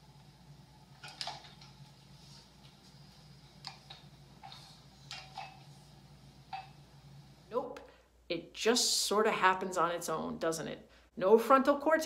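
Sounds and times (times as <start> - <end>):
faint steady hum: 0.0 - 11.4.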